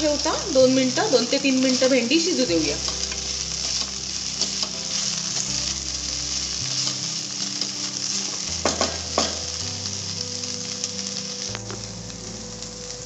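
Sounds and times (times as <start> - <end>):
okra sizzling in oil: 0.0 - 13.0.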